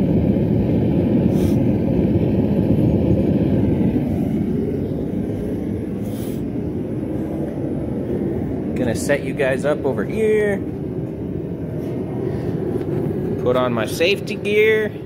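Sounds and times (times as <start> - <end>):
gas burner rushing: 0.0 - 15.0.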